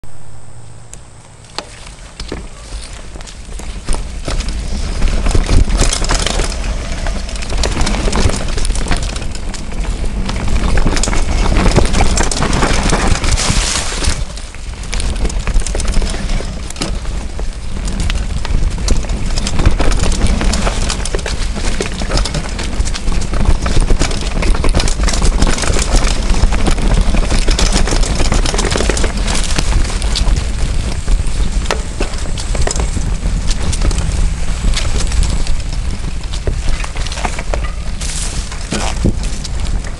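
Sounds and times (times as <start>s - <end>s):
knobby tyre noise on dirt: 0.0s - 39.9s
wind rumble on microphone: 0.0s - 39.9s
bike rattling clicks and knocks: 1.2s - 39.9s.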